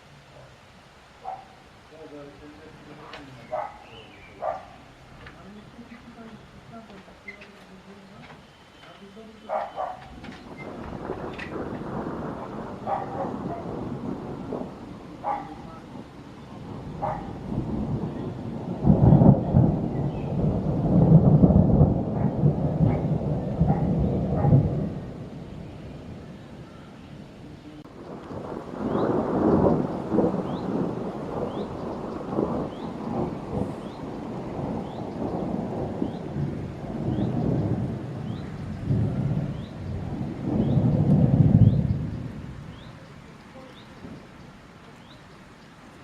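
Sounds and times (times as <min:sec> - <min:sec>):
thunder rumbling: 0:01.2 - 0:45.2.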